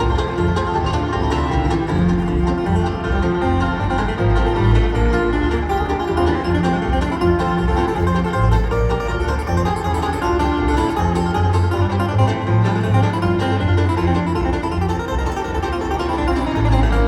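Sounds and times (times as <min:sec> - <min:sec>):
acoustic guitar: 0:00.0 - 0:17.0
plucked banjo: 0:00.0 - 0:17.0
steady low bass notes: 0:00.0 - 0:17.0.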